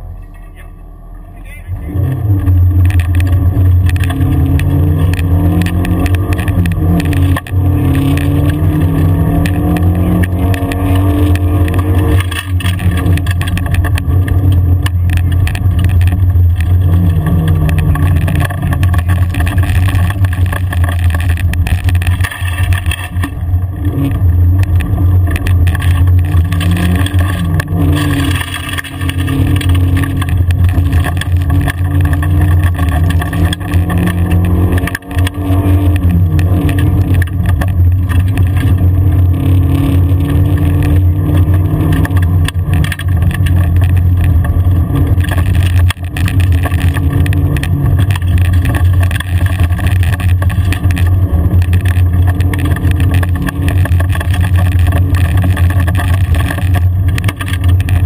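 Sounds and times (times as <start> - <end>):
car engine pulling hard: 0.0 - 58.0
tyres on gravel: 0.1 - 58.0
knocks and rattles: 2.4 - 58.0.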